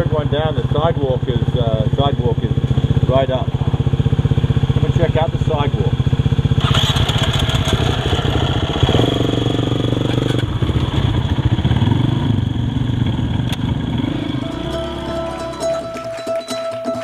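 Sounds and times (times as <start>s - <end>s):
dirt bike idling: 0.0s - 17.0s
dirt bike pulling away: 0.0s - 17.0s.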